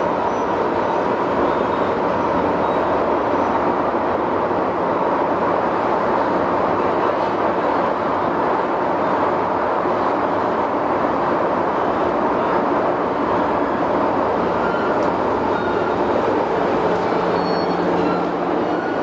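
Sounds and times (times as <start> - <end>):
subway train running: 0.0 - 19.0.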